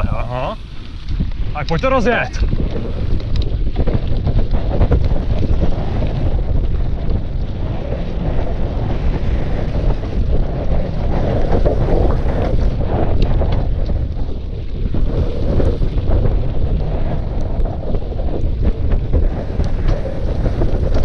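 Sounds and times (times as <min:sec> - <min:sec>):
bike knocking and rattling: 0:00.0 - 0:21.0
wind buffeting microphone: 0:00.0 - 0:21.0.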